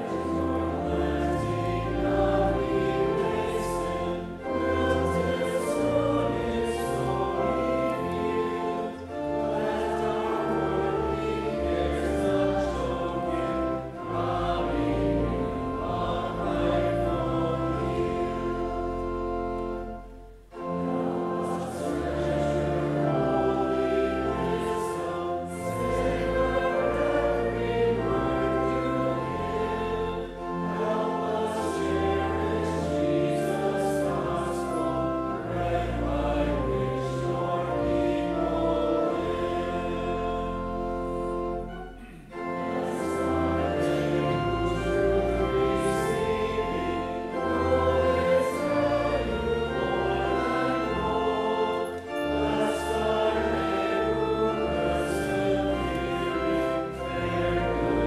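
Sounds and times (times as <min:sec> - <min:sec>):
congregation singing a hymn: 0:00.0 - 0:58.0
instrumental accompaniment: 0:00.0 - 0:58.0.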